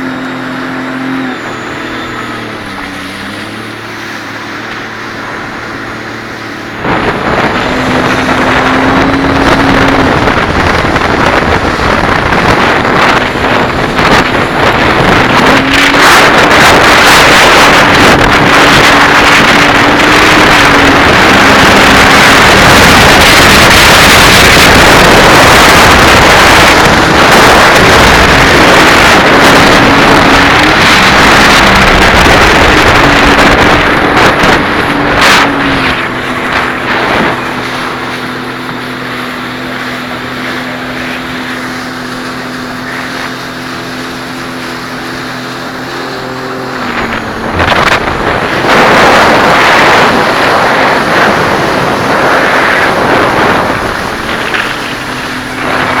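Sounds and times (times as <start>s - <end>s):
jet ski engine running: 0.0s - 56.0s
rushing water: 0.0s - 56.0s
wind noise on microphone: 0.0s - 56.0s.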